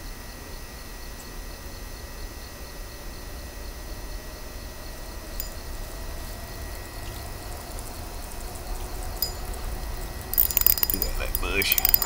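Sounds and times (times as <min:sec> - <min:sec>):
faint high hum: 0:00.0 - 0:12.0
low steady rumble: 0:01.0 - 0:12.0.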